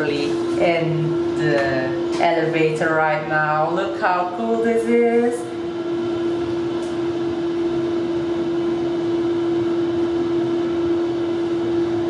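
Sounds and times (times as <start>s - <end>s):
elevator humming drone: 0.0s - 12.0s.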